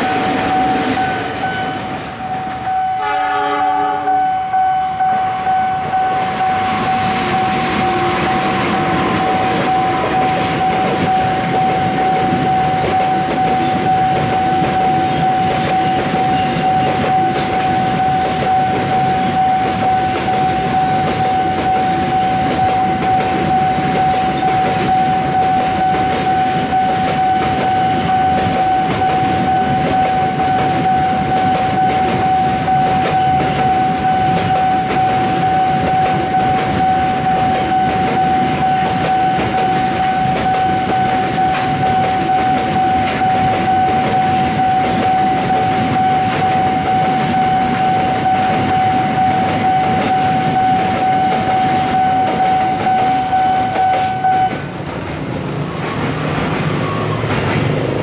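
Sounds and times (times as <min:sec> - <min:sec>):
train wheels rumbling and clicking: 0:00.0 - 0:02.8, 0:04.8 - 0:58.0
steady high tone: 0:00.0 - 0:54.8.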